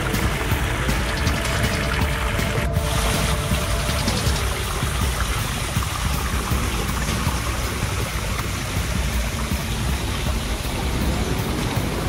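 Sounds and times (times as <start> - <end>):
background music with light beat: 0.0 - 12.0
stream splashing over rocks: 0.0 - 12.0.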